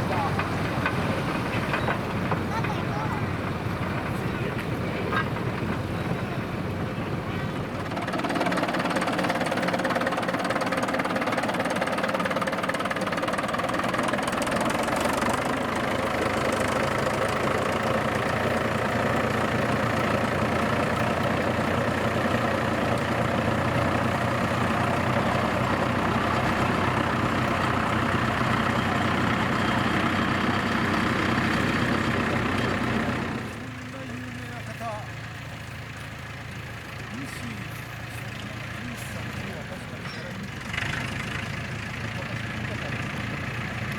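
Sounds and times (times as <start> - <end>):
diesel locomotive engine clattering: 0.0 - 43.9.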